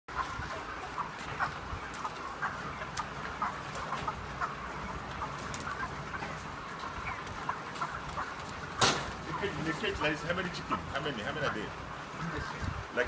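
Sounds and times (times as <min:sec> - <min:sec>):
chickens clucking: 0:00.1 - 0:13.0.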